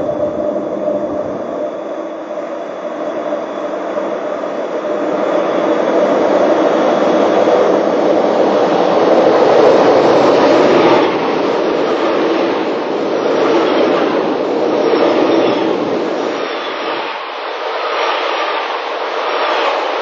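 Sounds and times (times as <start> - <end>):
electric train rushing past: 0.0 - 20.0.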